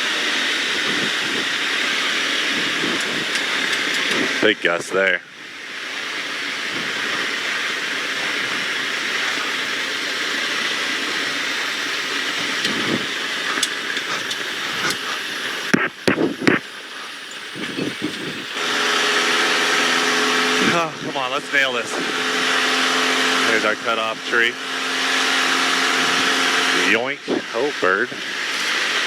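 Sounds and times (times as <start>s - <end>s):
aircraft cockpit noise: 0.0s - 29.0s
steady engine drone: 0.0s - 29.0s.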